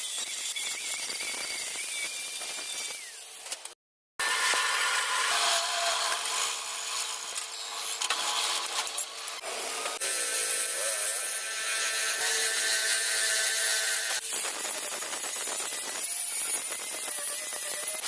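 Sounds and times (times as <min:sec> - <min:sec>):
power tool grinding: 0:00.0 - 0:18.0.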